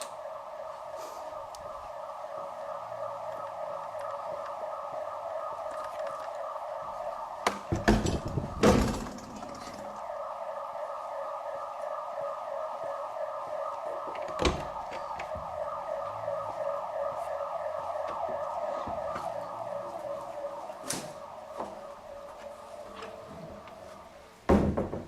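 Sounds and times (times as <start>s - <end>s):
electronic alarm siren: 0.0s - 24.5s.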